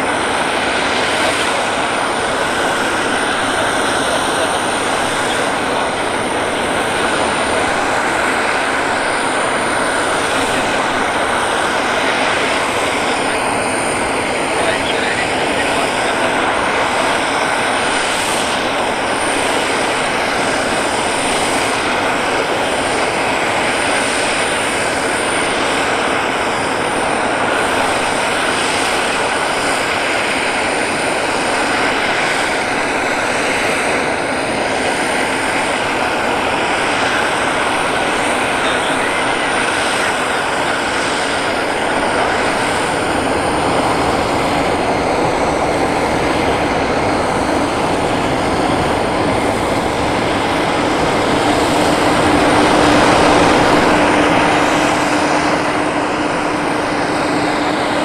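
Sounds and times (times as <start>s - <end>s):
aircraft turbine rushing and whining: 0.0s - 58.0s.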